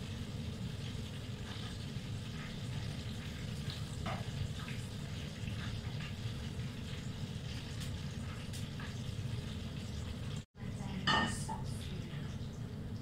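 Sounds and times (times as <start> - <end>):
meatballs sizzling in hot oil: 0.0 - 10.5.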